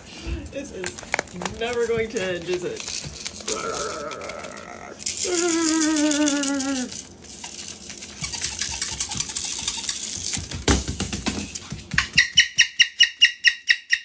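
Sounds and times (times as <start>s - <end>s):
dry rattling scratching noise: 0.0s - 12.4s.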